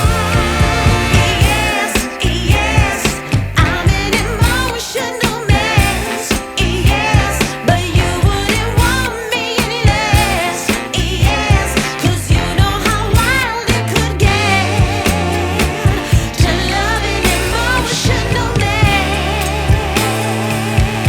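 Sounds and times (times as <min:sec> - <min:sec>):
pop song with female singer: 0:00.0 - 0:21.0.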